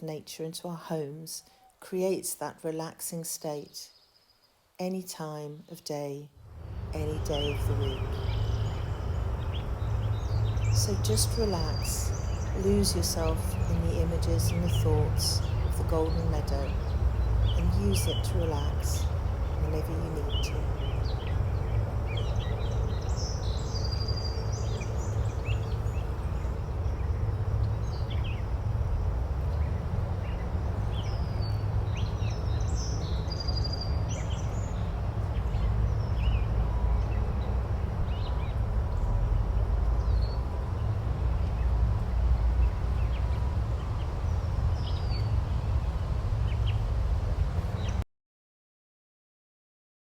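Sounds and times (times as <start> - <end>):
small birds chirping: 2.8 - 48.0
steady low rumble: 6.4 - 48.0.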